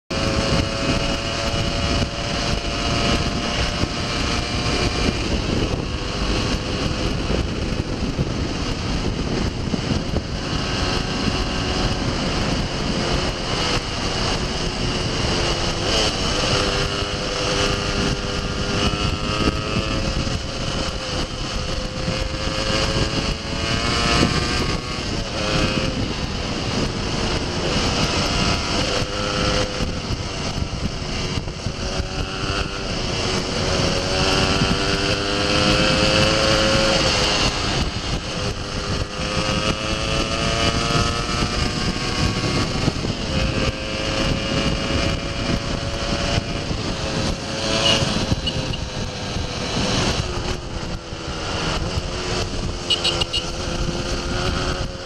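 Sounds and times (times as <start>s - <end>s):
motorcycle engine: 0.1s - 55.0s
wind noise on microphone: 0.1s - 55.0s.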